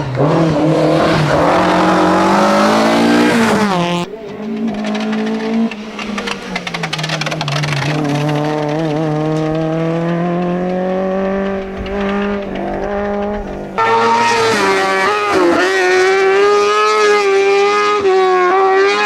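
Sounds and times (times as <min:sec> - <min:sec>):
rapid engine crackling: 0:00.0 - 0:17.6
race car engine accelerating: 0:00.0 - 0:19.0.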